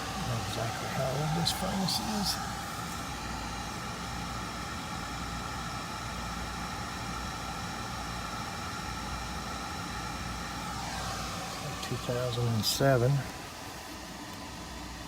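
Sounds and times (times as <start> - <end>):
faint high whining tones: 0.0 - 15.0
mechanical hum with low rumble: 0.0 - 15.0.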